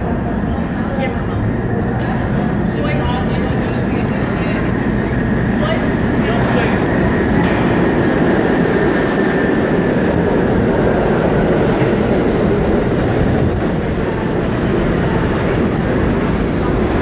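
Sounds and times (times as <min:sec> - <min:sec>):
subway train wheels rumbling on rail: 0:00.0 - 0:17.0.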